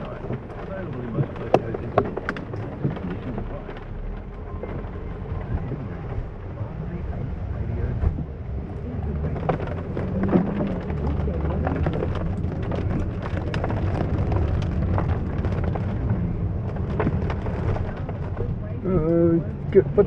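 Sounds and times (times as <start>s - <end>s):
heavy rain drops ticking: 0.0s - 20.0s
steady low rumble: 0.0s - 20.0s.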